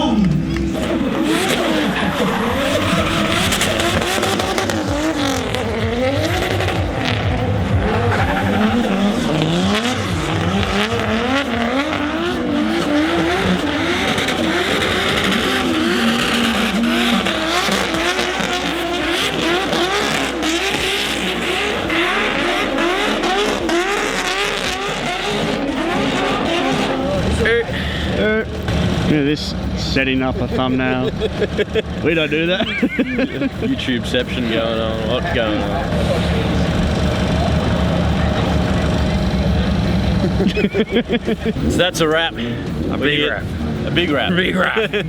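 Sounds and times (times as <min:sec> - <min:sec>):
car engines revving: 0:00.0 - 0:45.0
tyres squealing: 0:00.0 - 0:45.0.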